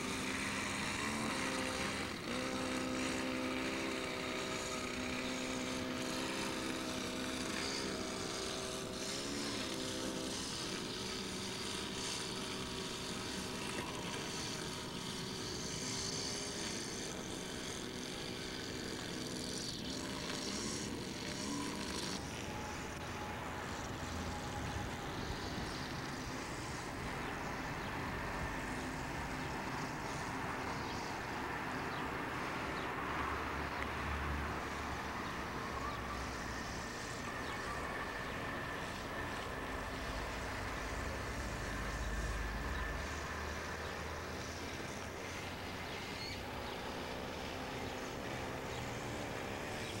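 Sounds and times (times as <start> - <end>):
engine drone: 0.0 - 50.0.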